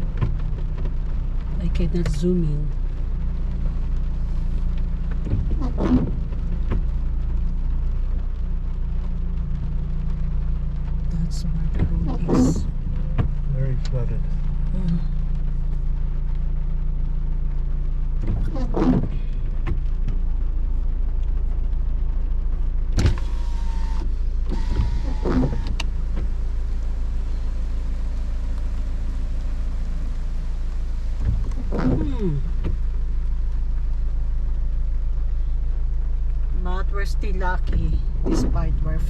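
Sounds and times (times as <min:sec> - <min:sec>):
car engine hum inside cabin: 0:00.0 - 0:39.0.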